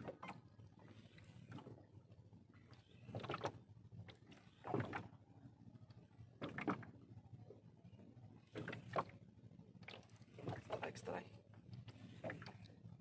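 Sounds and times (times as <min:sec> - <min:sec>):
water slapping boat hull: 0:00.0 - 0:13.0.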